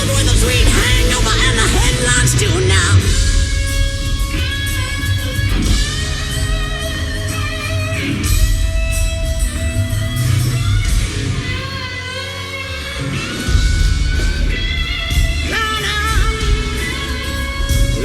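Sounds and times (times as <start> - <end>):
bass guitar: 0.0 - 18.0
drums: 0.0 - 18.0
electric guitar bending notes: 0.0 - 18.0.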